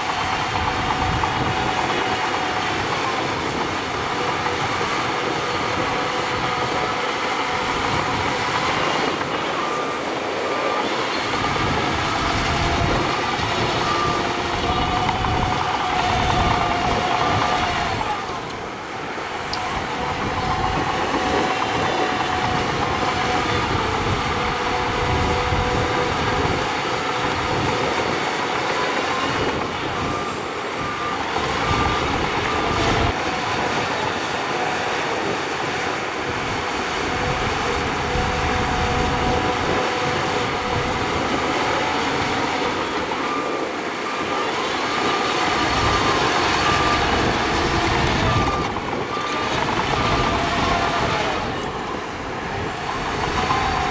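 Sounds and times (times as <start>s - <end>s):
bulldozer diesel engine: 0.0s - 53.9s
reversing alarm beeping: 0.0s - 53.9s
steel tracks clattering: 0.0s - 53.9s.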